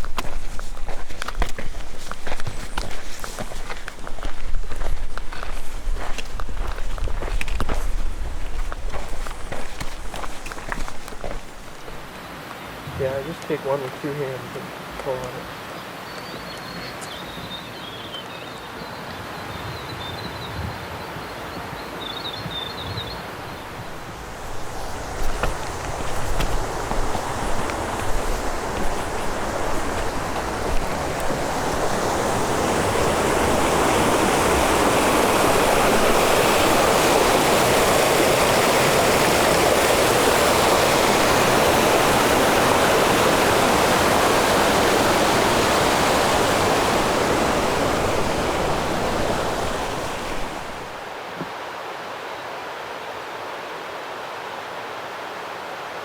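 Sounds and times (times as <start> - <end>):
rushing water: 0.0 - 12.5, 23.4 - 56.0.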